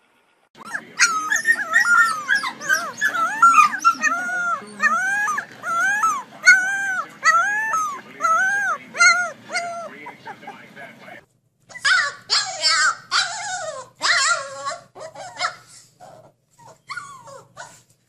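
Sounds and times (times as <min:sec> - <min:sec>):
puppy high-pitched howling cries: 0:00.6 - 0:10.6, 0:11.7 - 0:15.7, 0:16.6 - 0:17.8.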